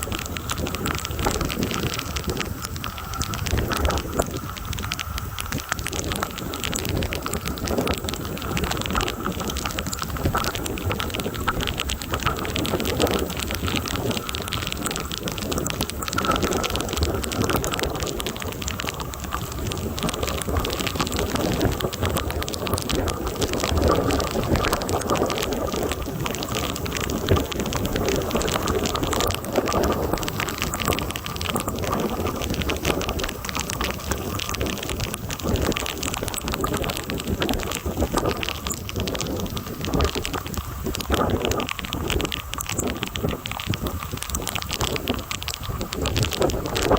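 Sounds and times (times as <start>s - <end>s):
heavy rain pouring: 0.0s - 46.9s
wind rumble: 0.0s - 46.9s.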